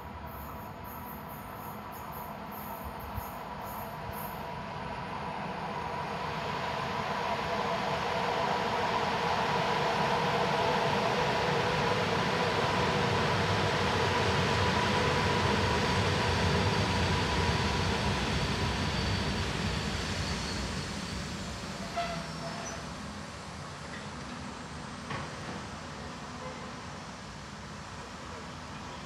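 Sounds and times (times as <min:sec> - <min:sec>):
electric train whine: 0:00.0 - 0:29.0.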